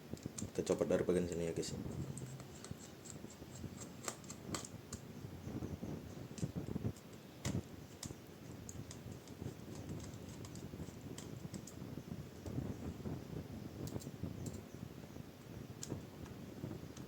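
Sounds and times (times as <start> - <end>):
rustle of laptop parts handled: 0.0 - 5.1, 6.0 - 14.7.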